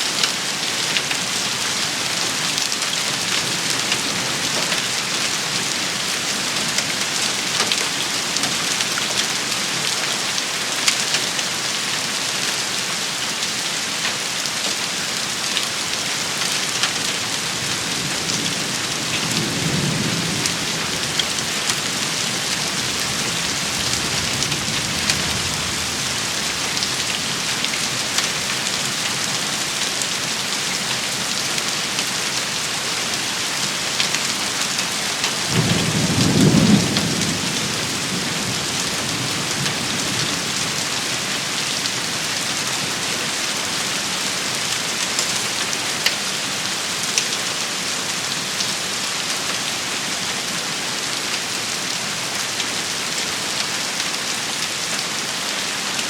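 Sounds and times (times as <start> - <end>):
rain pattering on hard surface: 0.0 - 56.0.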